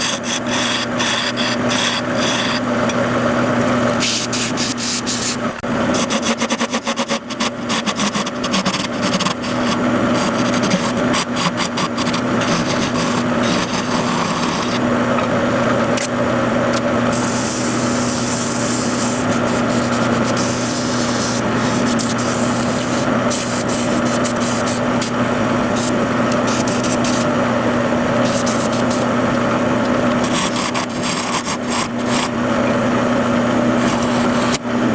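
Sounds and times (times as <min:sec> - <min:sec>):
lathe motor hum: 0:00.0 - 0:34.9
turning tool cutting wood: 0:00.0 - 0:34.9.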